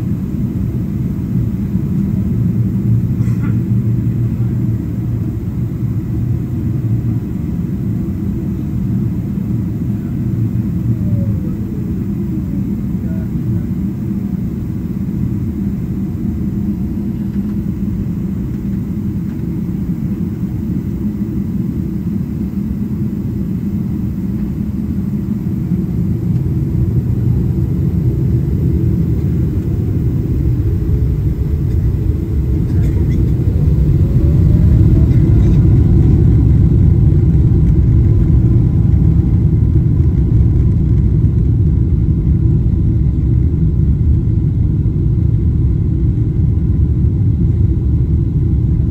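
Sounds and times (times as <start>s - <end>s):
aircraft cabin rumble: 0.0s - 48.9s
jet engine whine rising: 0.0s - 48.9s.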